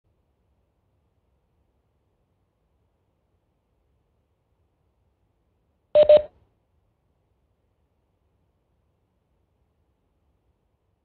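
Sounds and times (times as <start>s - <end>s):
faint low hum and hiss: 0.1s - 11.0s.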